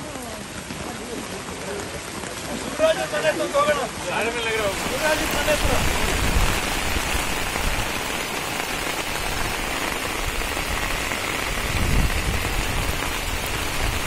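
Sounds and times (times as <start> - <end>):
rain falling on car: 0.0 - 14.0.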